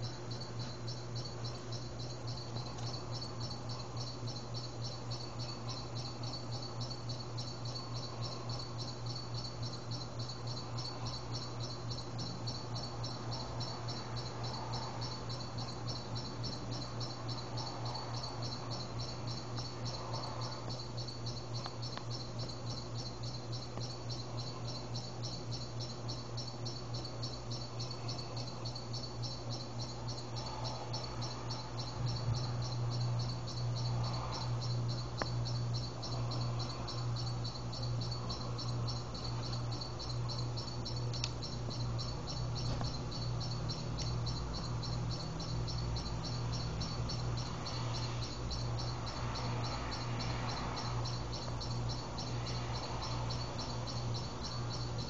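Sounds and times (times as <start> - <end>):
insects chirping: 0.0 - 55.0
low steady hum: 0.0 - 55.0.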